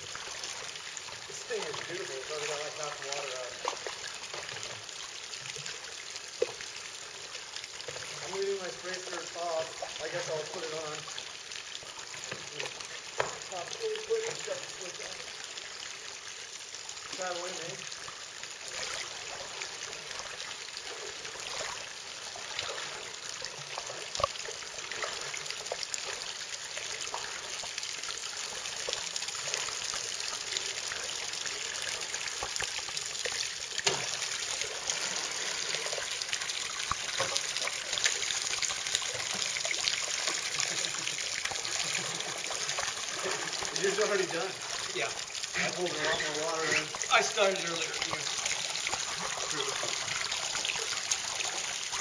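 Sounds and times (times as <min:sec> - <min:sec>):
water jets splashing and trickling: 0:00.0 - 0:52.0.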